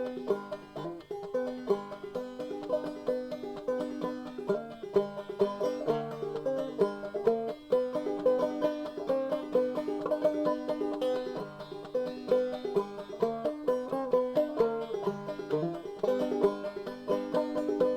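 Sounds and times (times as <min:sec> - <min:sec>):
banjo picking fast tune: 0:00.0 - 0:17.9.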